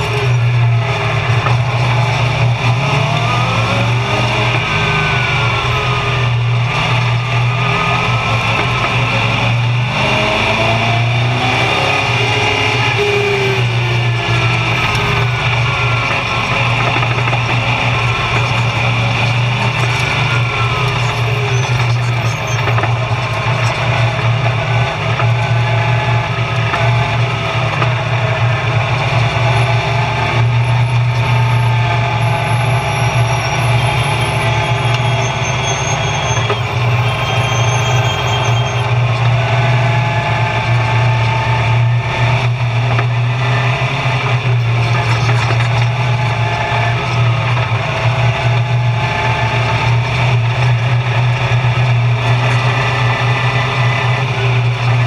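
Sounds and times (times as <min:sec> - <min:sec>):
race car engine droning: 0:00.0 - 0:55.0.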